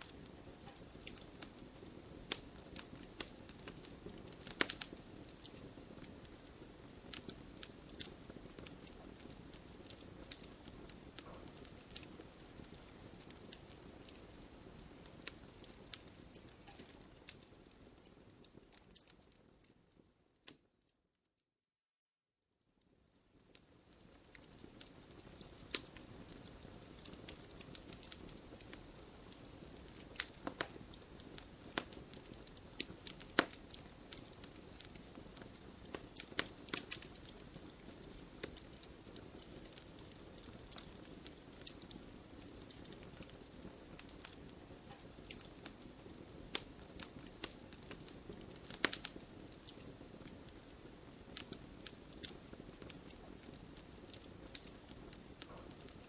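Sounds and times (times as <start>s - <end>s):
wood fire crackling: 0.0s - 20.8s, 22.8s - 56.0s.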